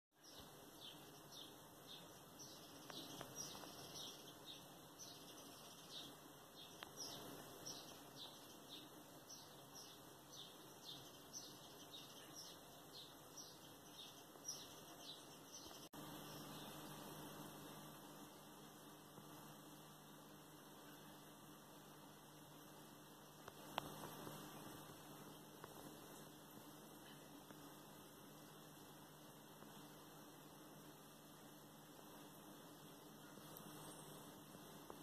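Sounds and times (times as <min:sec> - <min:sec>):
background hiss: 0:00.1 - 0:35.0
small songbird chirping: 0:00.1 - 0:35.0.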